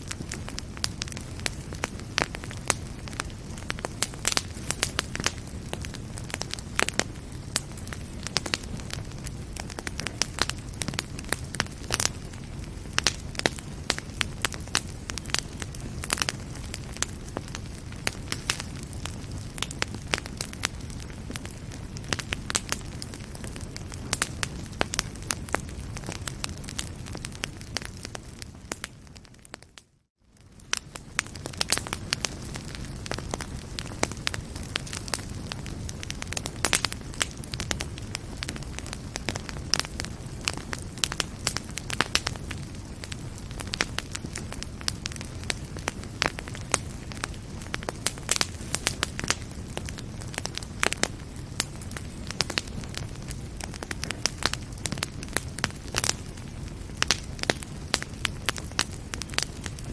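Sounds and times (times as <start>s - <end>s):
fire crackling in a fireplace: 0.0s - 59.9s.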